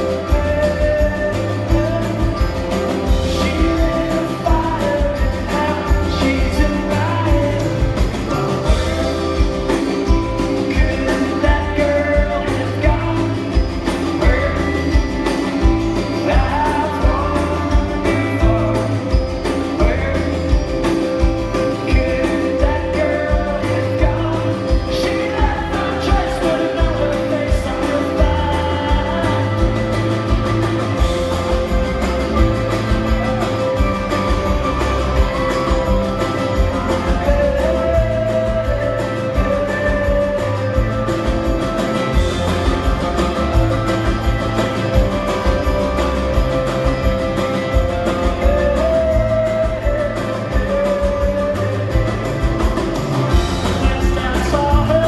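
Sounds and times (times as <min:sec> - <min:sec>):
electric guitars: 0:00.0 - 0:55.0
man singing: 0:00.0 - 0:55.0
strummed acoustic guitar: 0:00.0 - 0:55.0.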